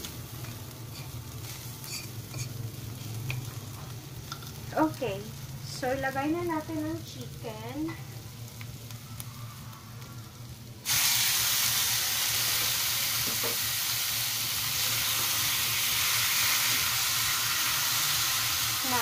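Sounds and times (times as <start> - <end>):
chicken sizzling in a wok: 0.0 - 19.0.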